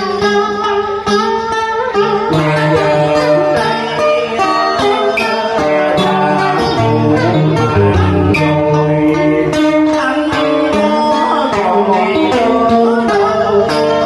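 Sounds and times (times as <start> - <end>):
plucked string instruments: 0.0 - 14.0.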